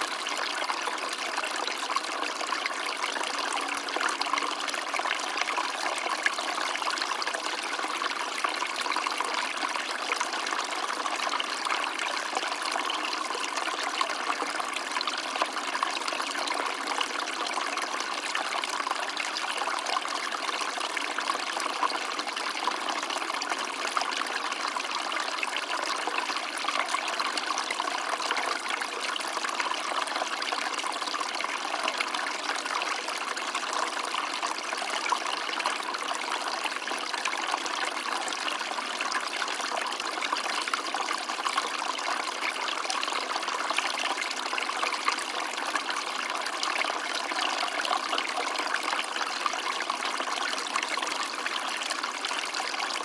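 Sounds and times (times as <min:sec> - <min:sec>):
stream trickling over stones: 0:00.0 - 0:53.0.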